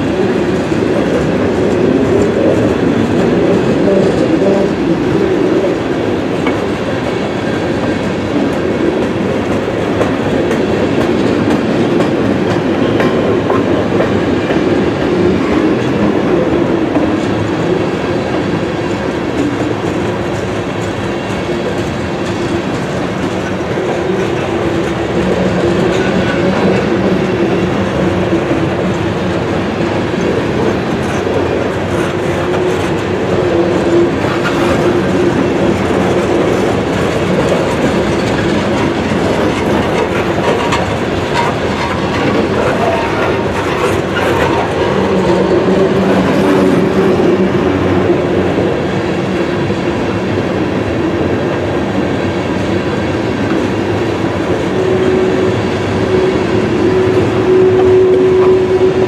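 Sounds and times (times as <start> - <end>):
clacks over rail joints: 0.0 - 51.7
train wheels rumbling on rails: 0.0 - 59.0.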